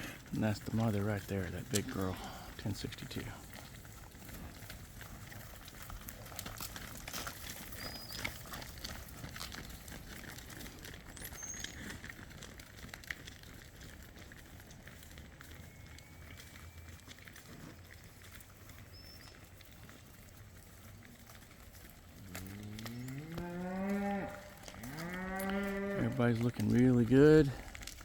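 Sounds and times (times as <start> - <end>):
cow hoof steps: 0.0 - 28.0
rustling: 0.0 - 28.0.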